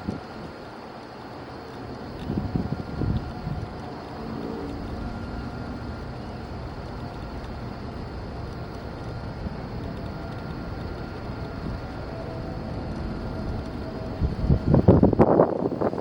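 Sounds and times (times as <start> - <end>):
faint steady hum: 0.0 - 16.0
distant outdoor rumble: 1.3 - 16.0.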